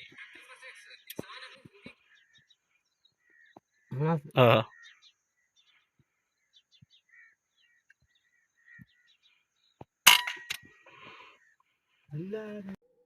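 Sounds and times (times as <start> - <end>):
faint bird chirps: 0.0 - 10.0, 10.6 - 13.0.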